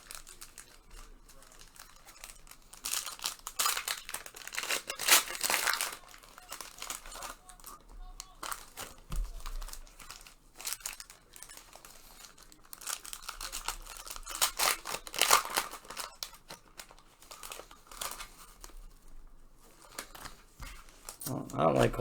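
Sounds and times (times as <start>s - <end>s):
plastic wrappers crinkling and tearing: 0.0s - 22.0s.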